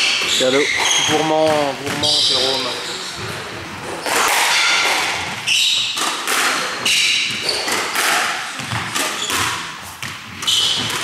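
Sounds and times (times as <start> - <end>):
shoes squeaking on wooden floor: 0.0 - 6.0, 6.8 - 8.0, 8.6 - 11.0
squash ball hits: 0.9 - 2.4, 3.2 - 11.0.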